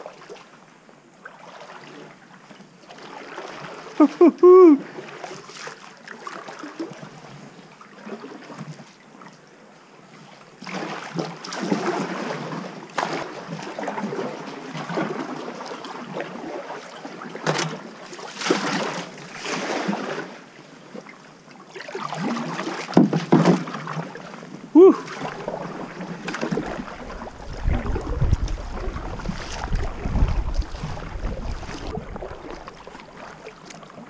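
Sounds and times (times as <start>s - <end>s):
kayak paddle splashing: 1.2s - 34.0s.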